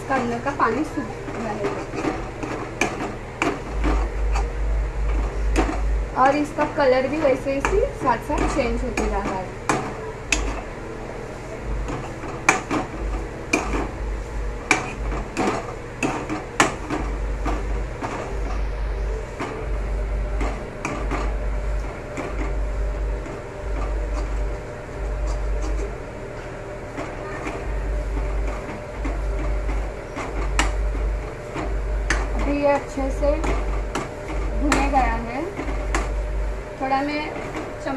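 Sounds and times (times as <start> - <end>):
low pulsing rumble: 0.0 - 37.9.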